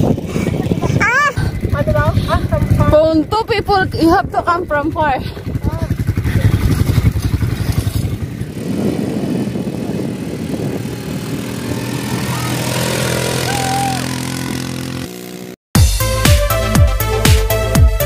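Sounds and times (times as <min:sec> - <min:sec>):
quad bike engine running: 0:00.0 - 0:15.6.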